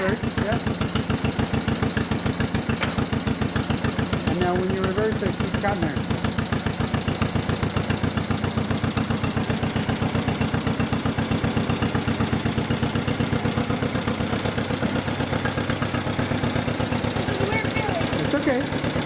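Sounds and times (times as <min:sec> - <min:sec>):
tractor engine putt-putt: 0:00.0 - 0:19.0.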